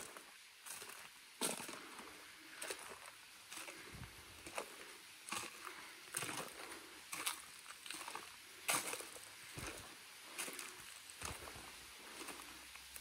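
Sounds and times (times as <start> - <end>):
faint steady hiss: 0.0 - 13.0
footsteps walking: 0.0 - 13.0.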